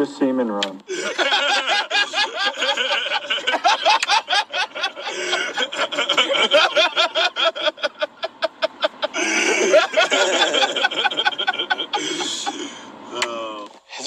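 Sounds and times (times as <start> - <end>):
people laughing: 0.9 - 13.6.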